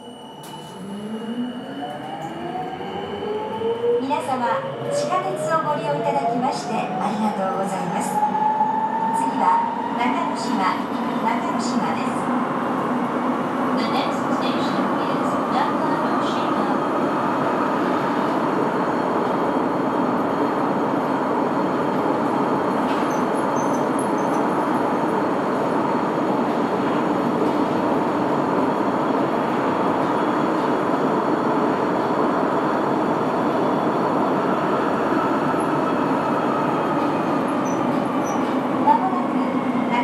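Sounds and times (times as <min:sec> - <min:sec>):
subway train running: 0:00.0 - 0:40.0.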